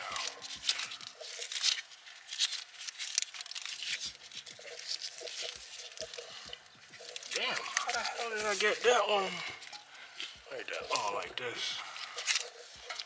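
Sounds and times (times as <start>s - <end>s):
gloved hands rustling and scraping: 0.0s - 13.0s.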